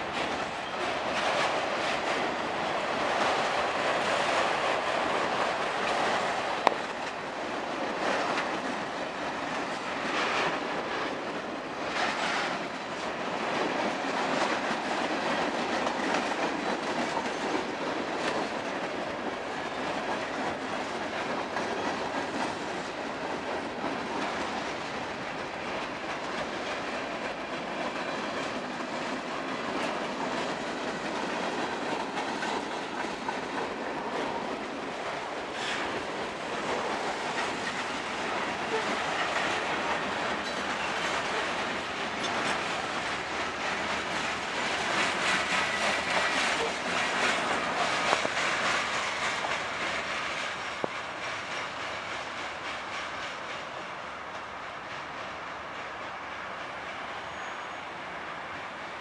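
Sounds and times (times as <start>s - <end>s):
wheels clattering over rail joints: 0.0s - 53.7s.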